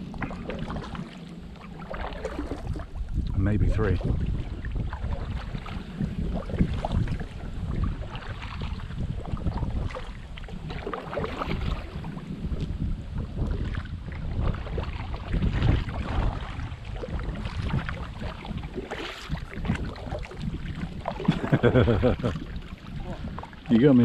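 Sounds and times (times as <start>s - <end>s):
water splashing around a boat: 0.0s - 24.0s
wind buffeting microphone: 0.0s - 24.0s.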